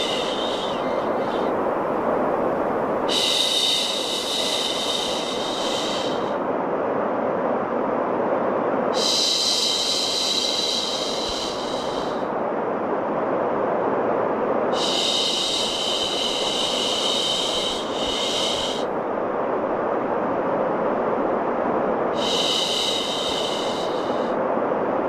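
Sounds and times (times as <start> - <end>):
steady rushing white noise: 0.0 - 25.0.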